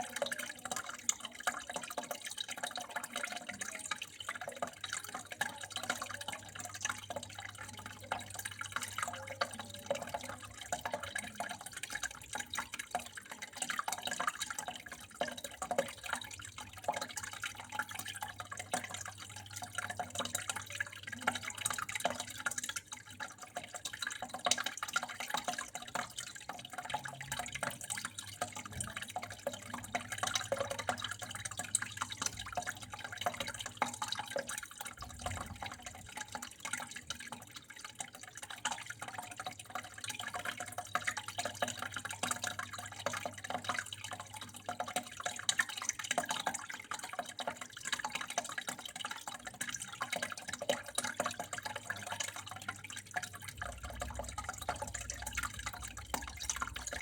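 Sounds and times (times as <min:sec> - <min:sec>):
small drips and splashes: 0:00.0 - 0:57.0
water flowing and trickling: 0:00.0 - 0:57.0.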